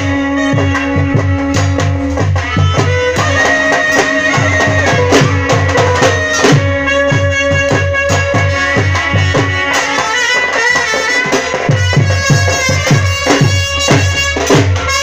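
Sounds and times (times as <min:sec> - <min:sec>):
dhol drum: 0:00.0 - 0:15.0
drums beaten with sticks: 0:00.0 - 0:15.0
trumpets playing melody: 0:00.0 - 0:15.0.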